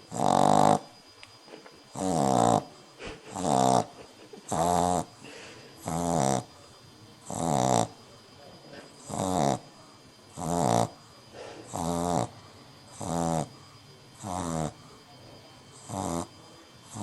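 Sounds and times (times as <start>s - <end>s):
puppy snoring: 0.0s - 17.0s.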